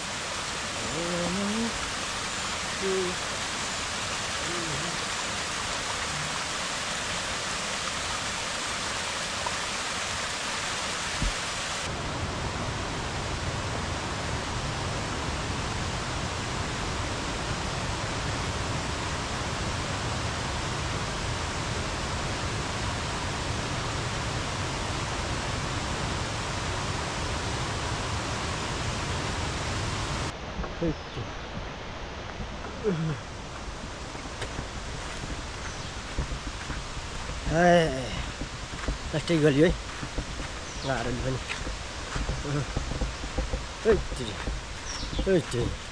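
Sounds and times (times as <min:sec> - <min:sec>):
stream water rushing: 0:00.0 - 0:45.9.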